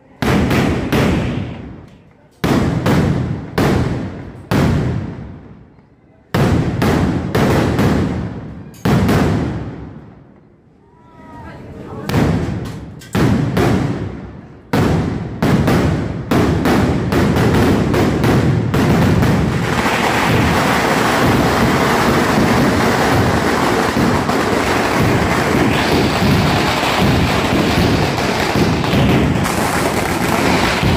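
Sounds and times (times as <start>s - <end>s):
firecrackers banging and crackling: 0.0s - 10.4s, 12.1s - 30.9s.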